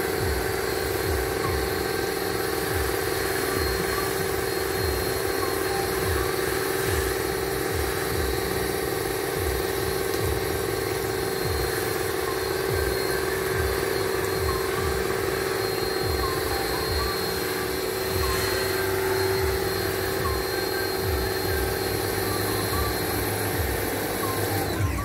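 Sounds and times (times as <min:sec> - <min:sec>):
water pump humming and throbbing: 0:00.0 - 0:25.0.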